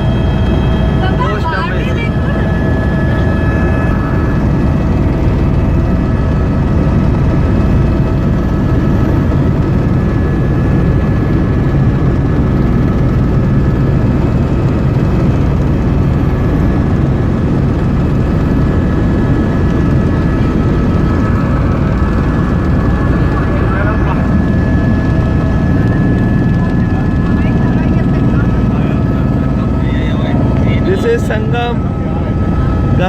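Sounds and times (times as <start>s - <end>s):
constant whining tones: 0.0s - 33.0s
helicopter engine and rotor drone: 0.0s - 33.0s.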